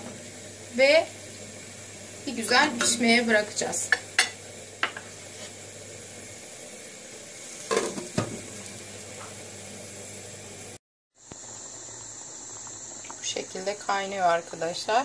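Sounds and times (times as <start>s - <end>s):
soup bubbling in a pot: 0.0s - 15.0s.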